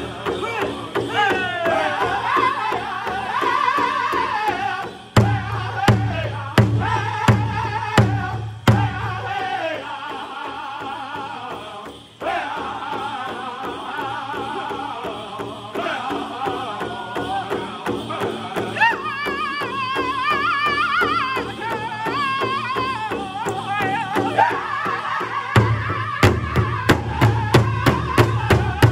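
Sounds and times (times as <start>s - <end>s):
group singing in unison: 0.0s - 28.9s
large drum beats: 0.0s - 28.9s.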